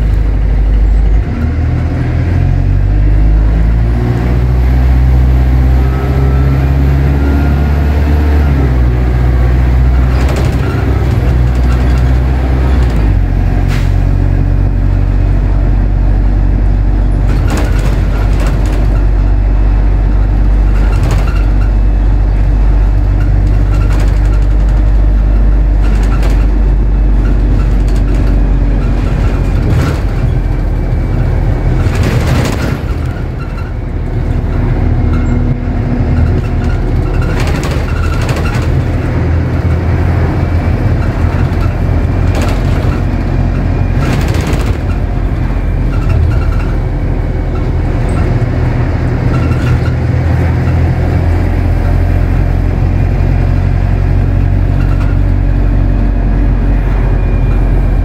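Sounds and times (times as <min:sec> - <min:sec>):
bus knocks and rattles: 0:00.0 - 0:58.0
diesel bus engine: 0:00.0 - 0:58.0.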